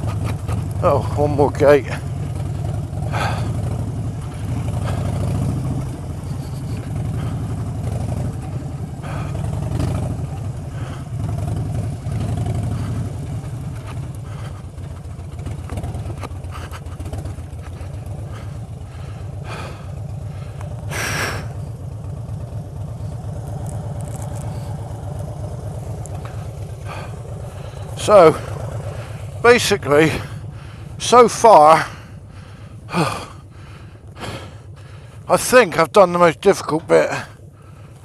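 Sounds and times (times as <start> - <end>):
rattles and clatter: 0.0 - 35.2
motorcycle engine at low revs: 0.0 - 38.0.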